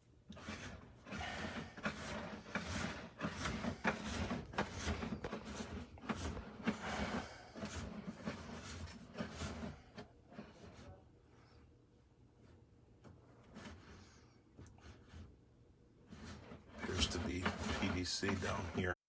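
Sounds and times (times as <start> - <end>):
cable scraping and rattling in drain: 0.2 - 11.6, 12.4 - 15.4, 16.0 - 19.0.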